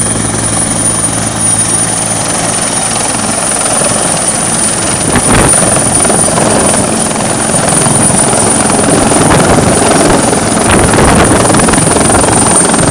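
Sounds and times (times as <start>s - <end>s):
helicopter rotor chop: 0.0s - 12.9s
turbine whine: 0.0s - 12.9s.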